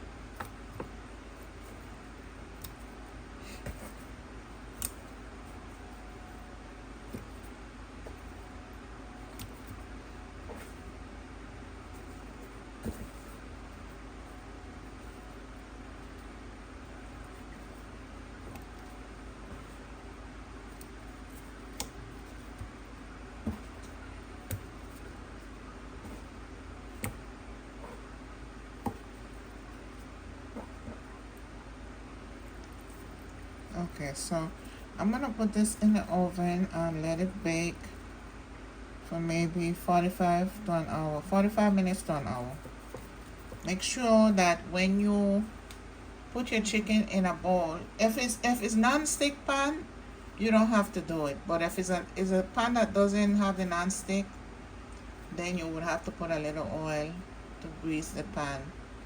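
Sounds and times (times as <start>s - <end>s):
low steady background hum: 0.0s - 59.0s.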